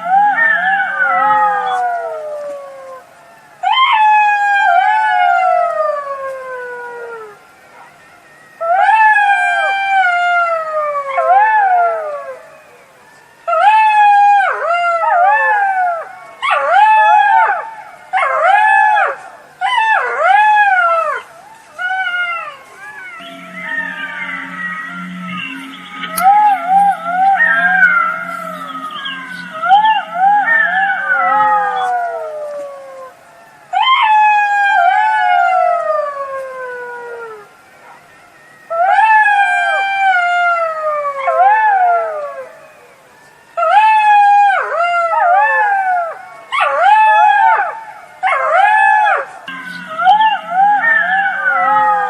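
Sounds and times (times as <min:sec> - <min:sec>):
jackals howling: 0:00.0 - 0:52.0.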